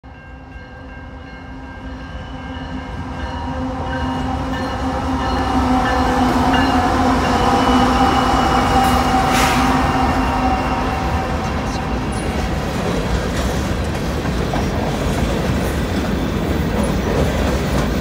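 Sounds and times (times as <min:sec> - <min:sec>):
diesel locomotive passing: 0:00.1 - 0:18.0.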